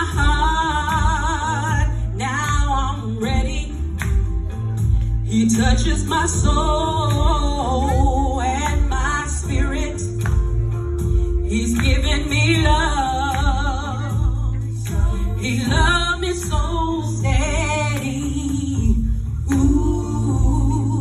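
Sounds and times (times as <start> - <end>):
instrumental accompaniment with bass: 0.0 - 21.0
woman singing gospel song: 0.0 - 21.0.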